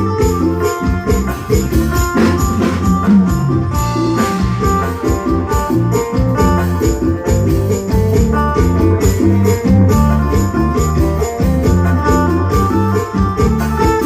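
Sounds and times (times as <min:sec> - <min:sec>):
bass and keyboard music: 0:00.0 - 0:14.0
jingling tambourine percussion: 0:00.0 - 0:14.0.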